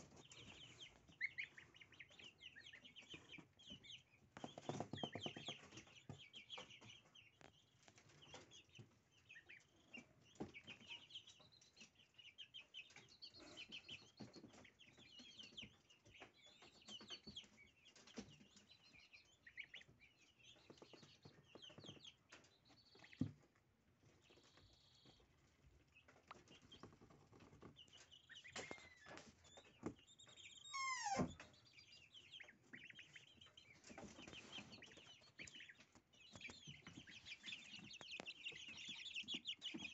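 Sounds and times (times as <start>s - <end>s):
goslings peeping: 0.0s - 39.9s.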